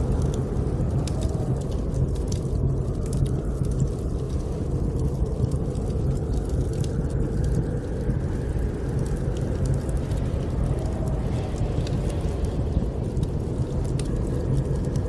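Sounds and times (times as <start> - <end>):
snowstorm wind blowing: 0.0 - 15.0
wood fire crackling: 0.0 - 15.0.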